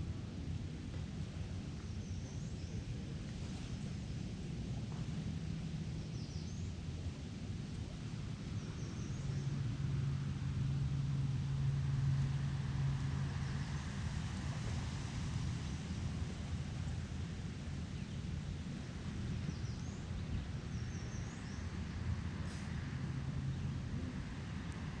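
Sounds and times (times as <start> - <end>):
distant engine hum: 0.0 - 25.0
outdoor ambience: 0.0 - 25.0.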